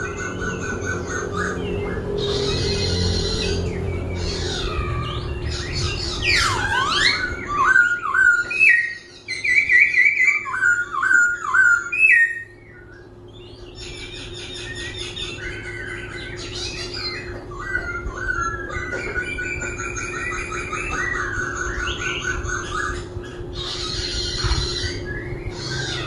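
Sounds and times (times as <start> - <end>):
bird singing whistled phrases: 1.1 - 26.0.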